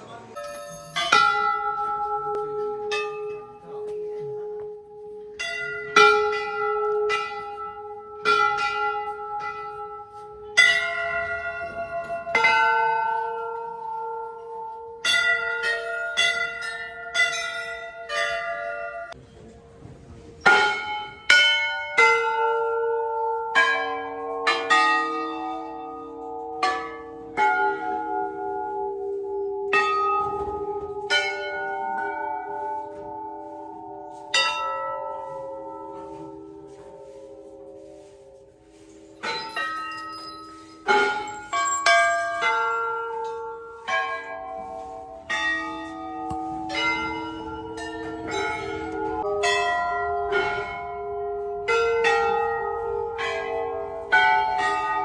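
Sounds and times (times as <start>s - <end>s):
metal bells ringing: 0.0s - 19.2s, 20.4s - 55.0s
low-pitched bell: 0.0s - 19.4s, 20.4s - 55.0s.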